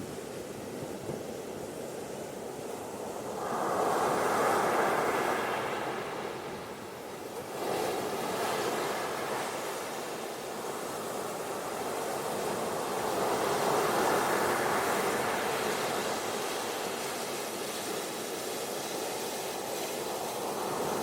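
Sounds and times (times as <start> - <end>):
hiss of surf: 0.0 - 21.0
waves washing onto beach: 0.4 - 21.0.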